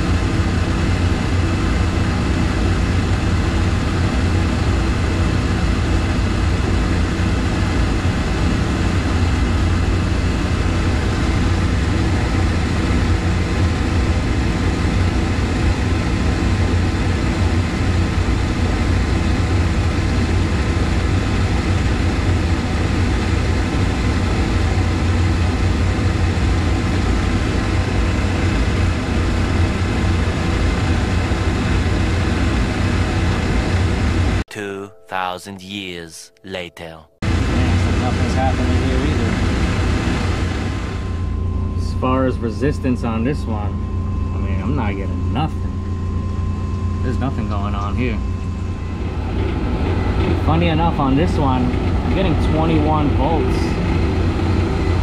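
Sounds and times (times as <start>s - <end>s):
boiler fan and pump humming: 0.0s - 34.4s, 37.2s - 55.0s.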